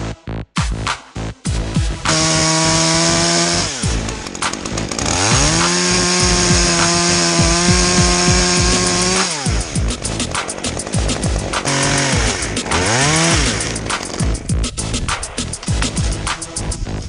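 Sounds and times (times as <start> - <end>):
chainsaw revving: 1.8 - 16.8.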